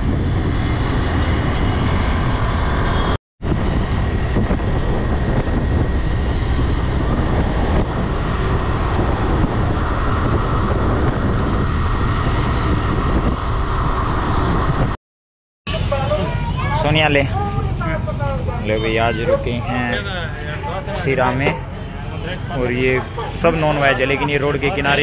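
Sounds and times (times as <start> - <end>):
vehicle road and engine noise: 0.0 - 15.0, 15.7 - 25.0.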